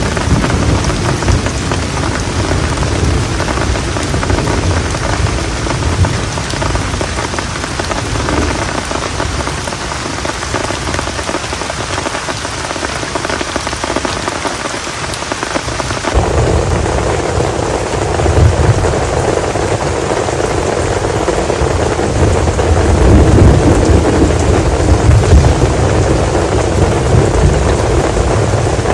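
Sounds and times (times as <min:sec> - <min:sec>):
thunder rumbling: 0:00.0 - 0:14.4, 0:15.7 - 0:28.9
heavy rain pouring: 0:00.0 - 0:28.9.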